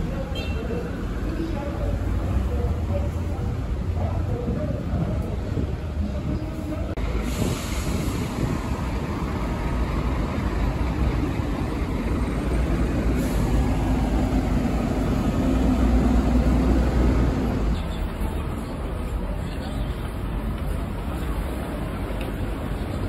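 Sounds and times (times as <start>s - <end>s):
bus engine droning: 0.0s - 23.0s
busy city road traffic: 0.0s - 23.0s.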